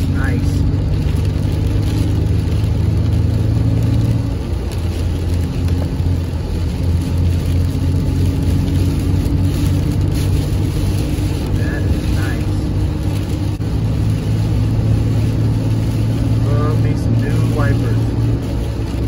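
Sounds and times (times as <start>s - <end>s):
engine and tyre drone: 0.0s - 19.0s.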